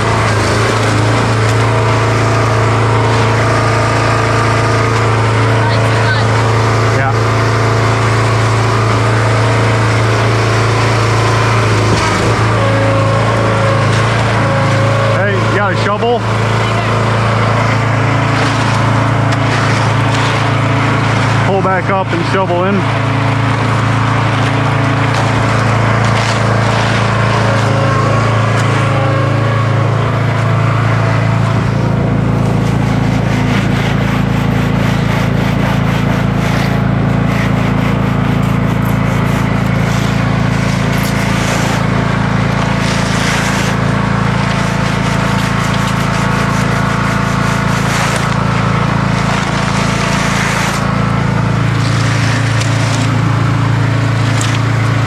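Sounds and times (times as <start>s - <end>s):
engine running steadily: 0.0s - 55.0s
tools scraping wet concrete: 0.0s - 55.0s.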